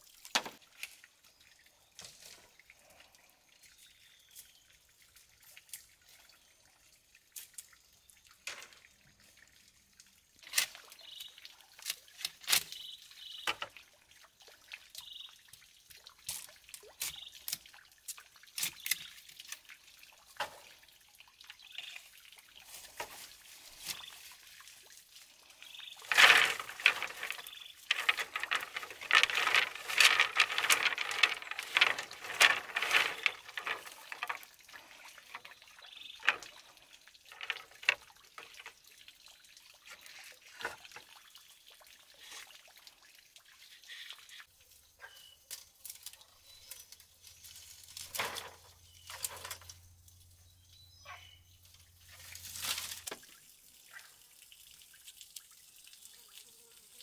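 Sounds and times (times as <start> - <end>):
small clicks and drips: 0.0 - 50.8, 51.5 - 57.0
water pouring and trickling: 0.0 - 57.0.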